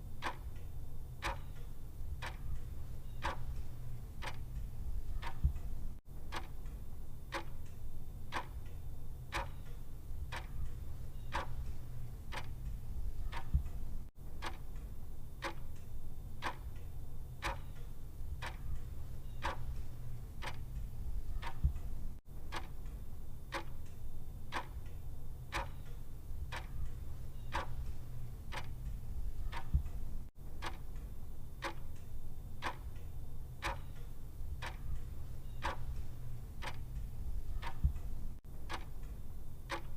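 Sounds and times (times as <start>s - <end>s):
low steady hum: 0.0s - 39.9s
clock ticking: 0.2s - 0.6s, 1.2s - 16.8s, 17.4s - 33.0s, 33.6s - 39.9s.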